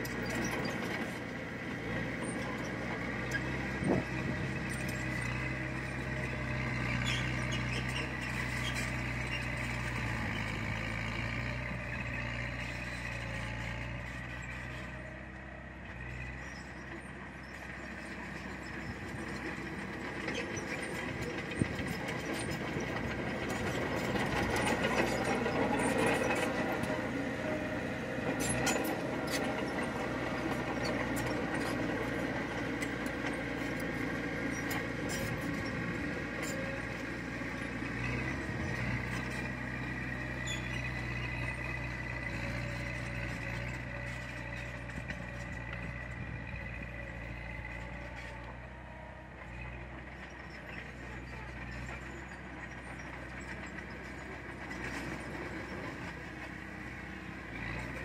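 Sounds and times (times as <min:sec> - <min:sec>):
heavy machinery diesel engine running: 0:00.0 - 0:58.0.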